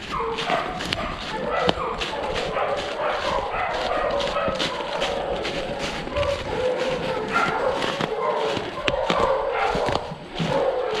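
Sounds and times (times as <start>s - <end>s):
footsteps crunching dry leaves: 0.0s - 11.0s
hounds baying: 0.0s - 11.0s.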